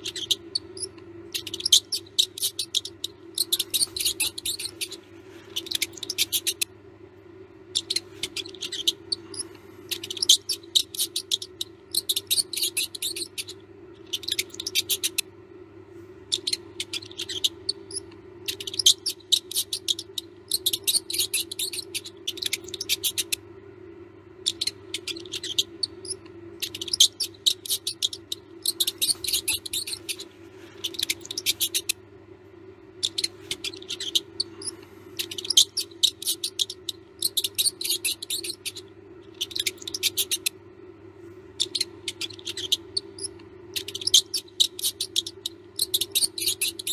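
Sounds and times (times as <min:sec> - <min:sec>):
mouse squeaks: 0:00.0 - 0:06.8, 0:07.6 - 0:15.3, 0:16.3 - 0:23.4, 0:24.4 - 0:32.0, 0:32.8 - 0:40.6, 0:41.5 - 0:46.9
steady low hum: 0:00.0 - 0:46.9.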